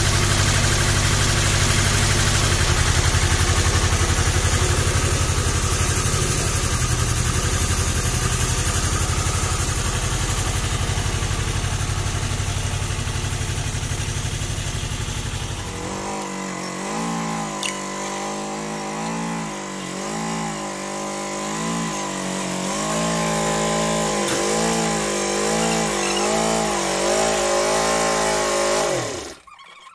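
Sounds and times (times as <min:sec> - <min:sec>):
tractor diesel engine running: 0:00.0 - 0:29.4.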